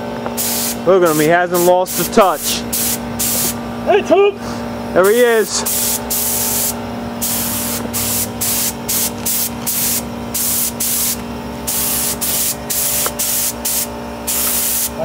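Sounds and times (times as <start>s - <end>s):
steady low hum: 0.0s - 15.0s
air spray gun hissing bursts: 0.3s - 3.6s, 5.0s - 15.0s.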